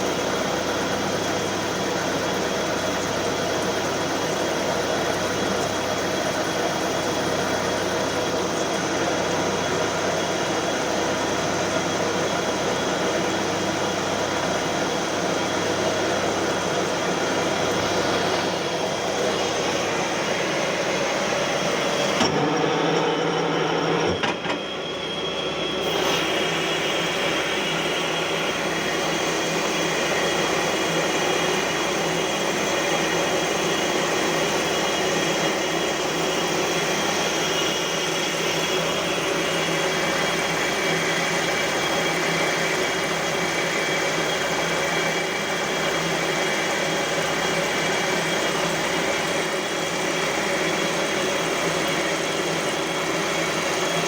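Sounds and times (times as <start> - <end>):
lathe machining metal hum: 0.0 - 54.0.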